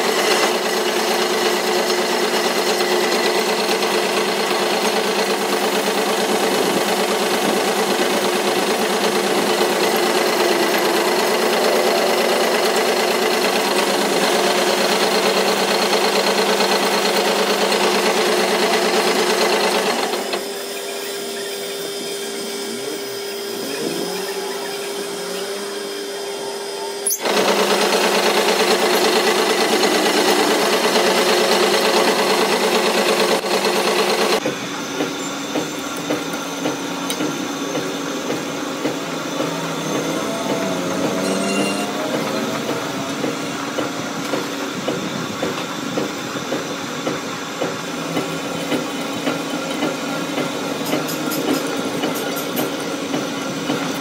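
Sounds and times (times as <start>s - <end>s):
metal lathe cutting steel: 0.0s - 54.0s.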